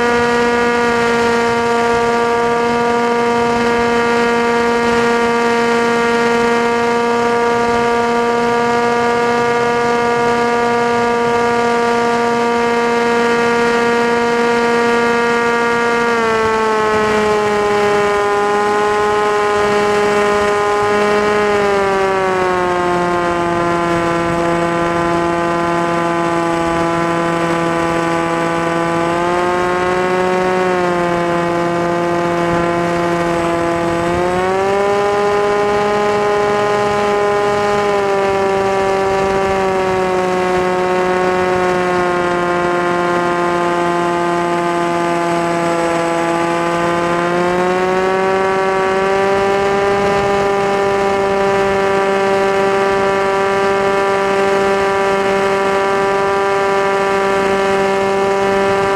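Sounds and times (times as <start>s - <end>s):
drone motor whining: 0.0s - 58.9s.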